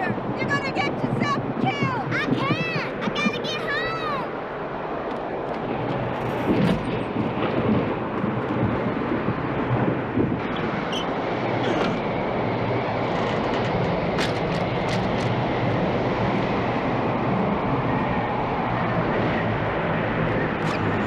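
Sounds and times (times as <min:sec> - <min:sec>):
strong wind rushing: 0:00.0 - 0:21.0.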